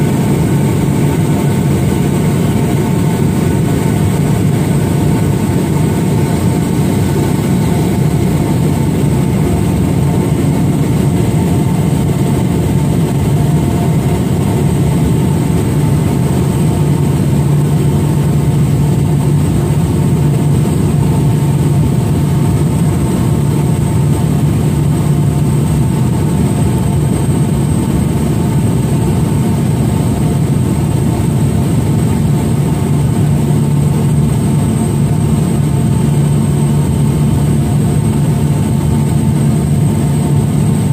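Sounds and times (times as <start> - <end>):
aircraft engine and propeller drone: 0.0 - 40.9.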